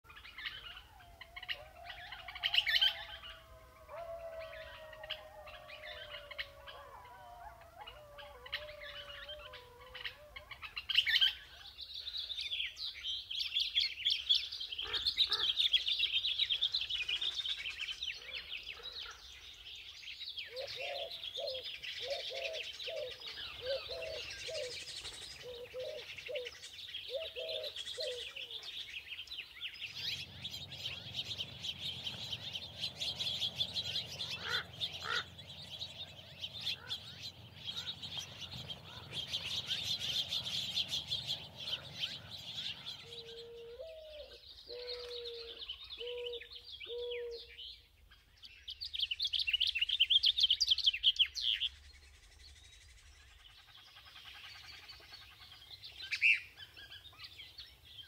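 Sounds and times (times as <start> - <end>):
birds chirping and twittering: 0.0 - 58.0
short low repeated bird calls: 0.0 - 58.0.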